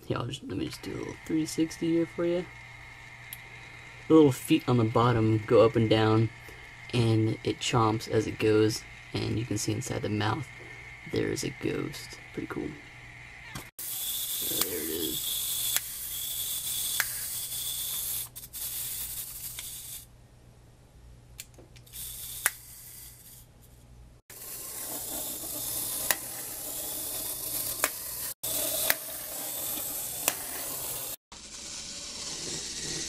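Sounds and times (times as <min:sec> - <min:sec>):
clockwork toy whirring: 0:00.6 - 0:20.1, 0:21.8 - 0:23.5, 0:24.3 - 0:33.0.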